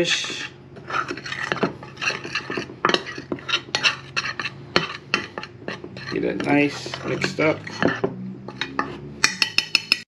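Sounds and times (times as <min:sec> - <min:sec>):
metal utensil scraping glass dish: 0:00.0 - 0:10.0.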